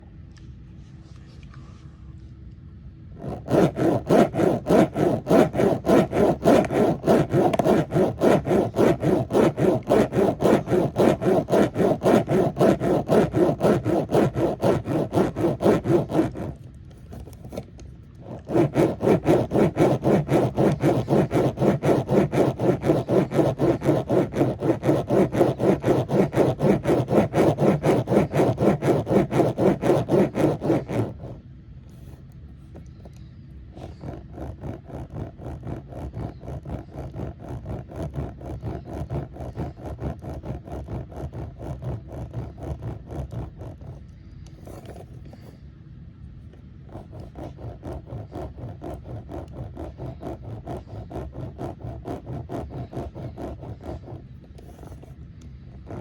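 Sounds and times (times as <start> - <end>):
rhythmic rasping strokes: 3.2 - 31.4, 32.8 - 45.5, 46.8 - 56.0.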